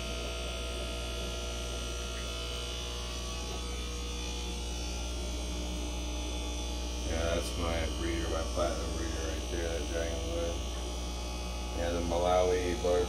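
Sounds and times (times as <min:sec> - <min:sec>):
aquarium pumps humming: 0:00.0 - 0:13.0.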